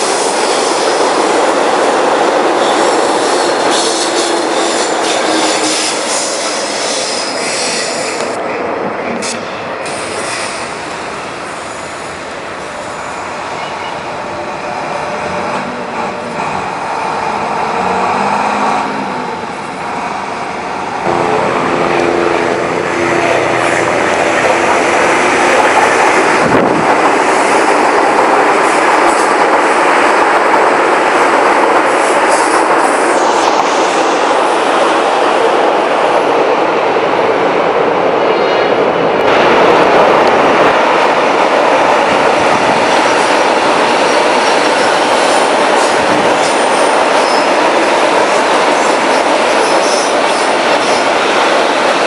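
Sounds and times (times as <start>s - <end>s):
passing train rumble: 0.0s - 52.0s
train wheels on tracks: 0.0s - 52.0s.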